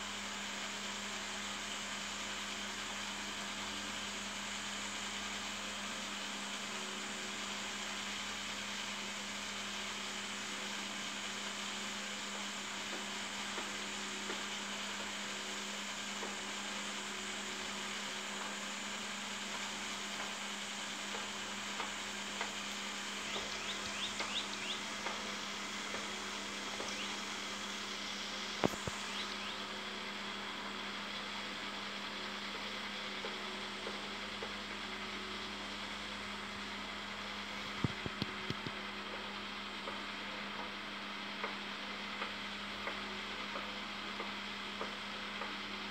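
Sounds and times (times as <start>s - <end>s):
background hum and hiss: 0.0s - 45.9s.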